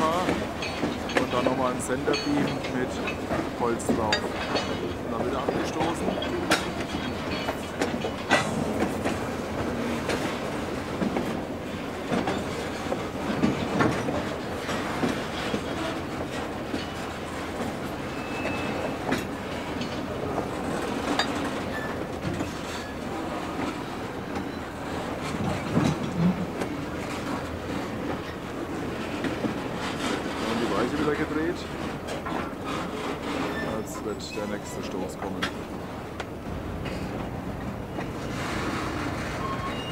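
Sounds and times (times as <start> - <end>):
freight cars rolling rumble: 0.0 - 39.9
wheels clicking over rail joints: 0.0 - 39.9.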